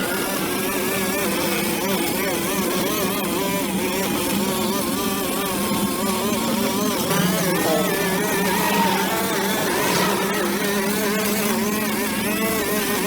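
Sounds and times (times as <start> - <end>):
brush cutter engine cutting grass: 0.0 - 13.0.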